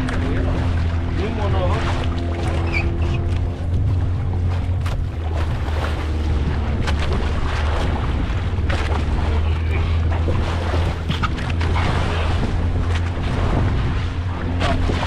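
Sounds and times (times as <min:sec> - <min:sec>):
boat engine humming: 0:00.0 - 0:15.0
sea water splashing: 0:00.0 - 0:15.0
wind buffeting microphone: 0:00.0 - 0:15.0.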